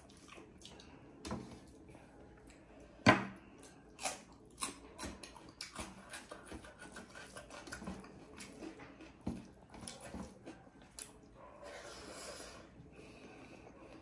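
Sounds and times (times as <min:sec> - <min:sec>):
chewing: 0:01.6 - 0:14.0.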